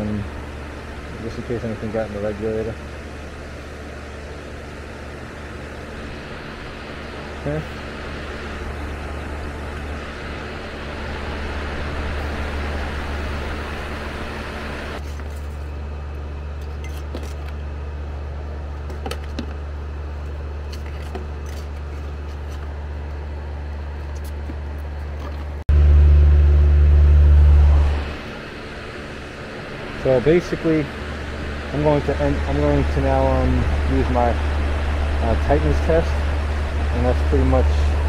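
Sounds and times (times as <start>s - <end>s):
loud low hum: 0.0s - 38.0s
steady low machine hum: 0.0s - 38.0s.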